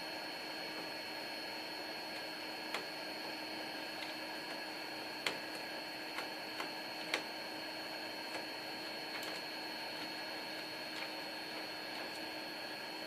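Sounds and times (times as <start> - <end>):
electrical hiss and hum: 0.0 - 13.0.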